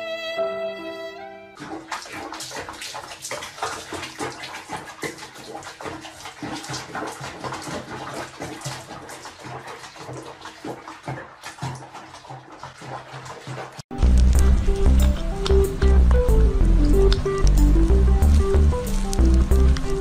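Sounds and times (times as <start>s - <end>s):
water splashing in basin: 1.5s - 20.0s.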